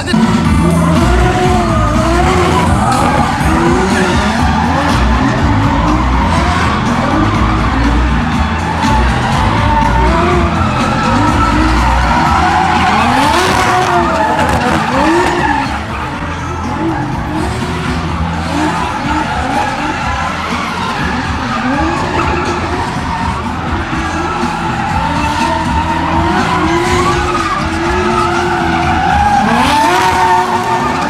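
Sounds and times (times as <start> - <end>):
car engines revving hard: 0.0 - 31.0
tyres skidding: 0.0 - 31.0.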